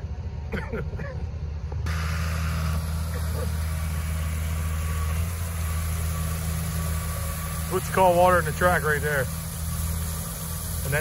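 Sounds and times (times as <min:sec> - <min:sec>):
truck engine droning: 0:00.0 - 0:11.0
hiss: 0:01.9 - 0:11.0.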